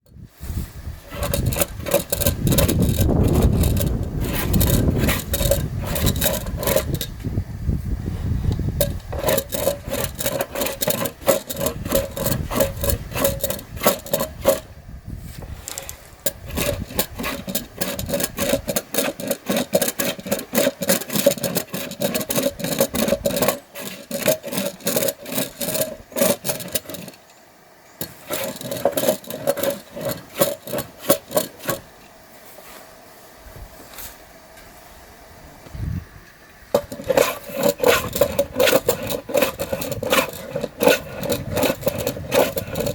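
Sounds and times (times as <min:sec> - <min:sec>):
hand tool scraping wood: 0:01.0 - 0:07.3, 0:08.6 - 0:27.4, 0:28.0 - 0:32.9, 0:36.7 - 0:42.9.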